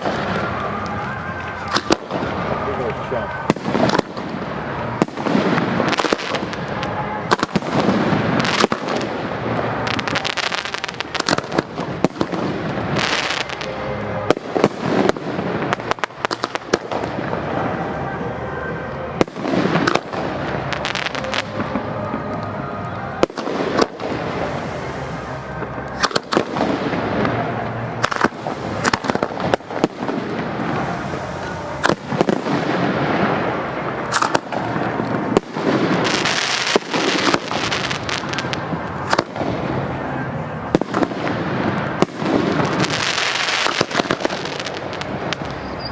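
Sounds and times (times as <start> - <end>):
faint music: 0.0 - 45.9
faint voices: 0.0 - 45.9
fireworks crackling: 0.0 - 45.9.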